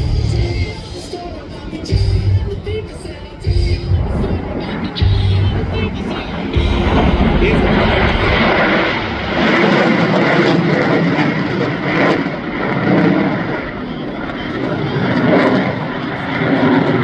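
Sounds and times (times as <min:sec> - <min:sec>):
jet engines in flight: 0:00.0 - 0:17.0.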